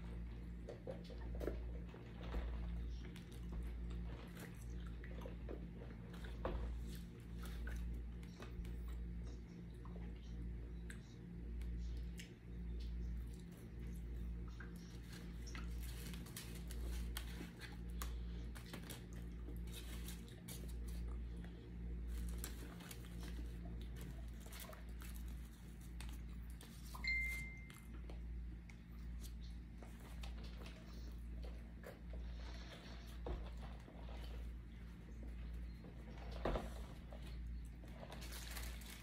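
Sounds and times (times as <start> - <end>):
low pulsing hum: 0.0 - 39.0.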